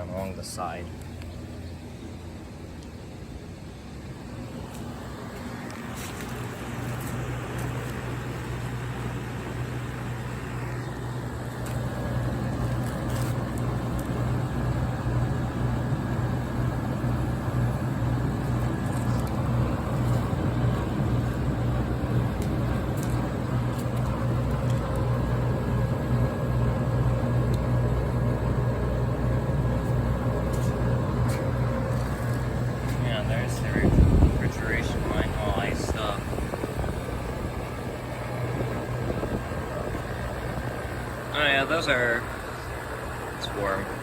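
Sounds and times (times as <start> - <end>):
air conditioner compressor hum: 0.0 - 44.0
fan air noise: 0.0 - 44.0.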